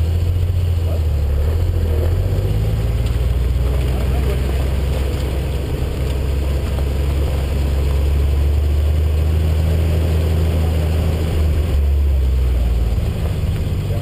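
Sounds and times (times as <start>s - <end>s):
car engine running under load: 0.0s - 14.0s
tyre and road noise: 0.0s - 14.0s.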